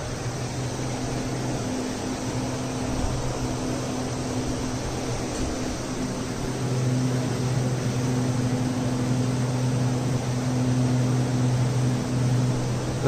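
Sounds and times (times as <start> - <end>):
air cooler fan hum: 0.0 - 13.0.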